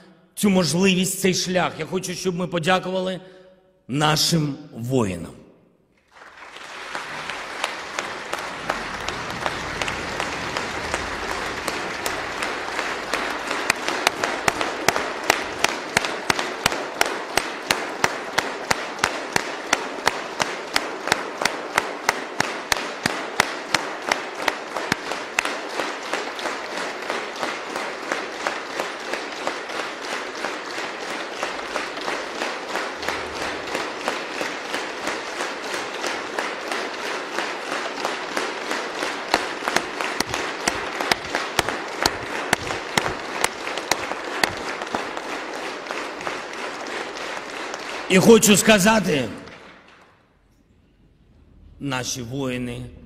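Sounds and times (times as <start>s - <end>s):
rhythmic clapping in unison: 5.9s - 50.5s
audience applauding: 6.0s - 50.2s.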